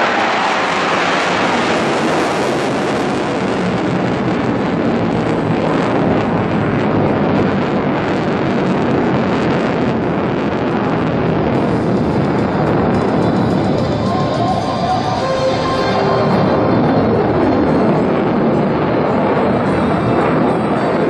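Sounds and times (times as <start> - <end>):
fighter jet flying overhead: 0.0 - 21.0.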